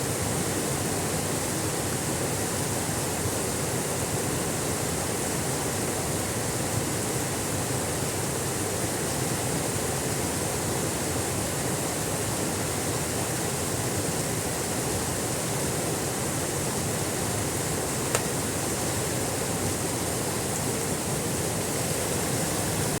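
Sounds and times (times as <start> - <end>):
small waterfall rushing: 0.0 - 23.0.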